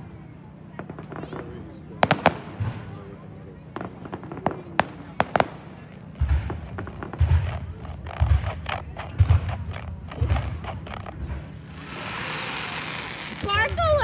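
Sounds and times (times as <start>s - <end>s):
fireworks crackling: 0.6s - 14.0s
deep firework thumps: 0.7s - 14.0s.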